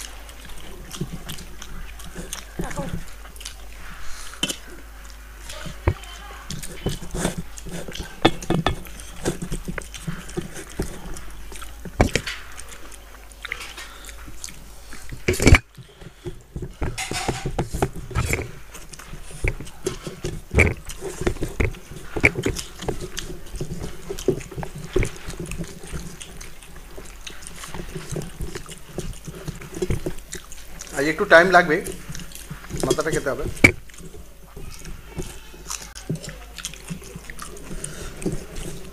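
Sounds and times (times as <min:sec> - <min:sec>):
food squelching: 0:00.0 - 0:38.9
wet chewing and lip-smacking: 0:00.0 - 0:38.9.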